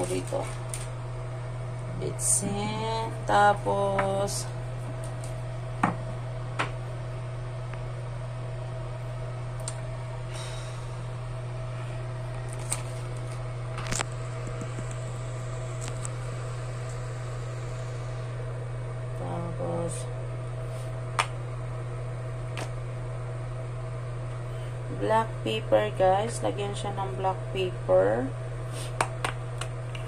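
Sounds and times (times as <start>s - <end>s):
appliance motor humming: 0.0s - 30.0s.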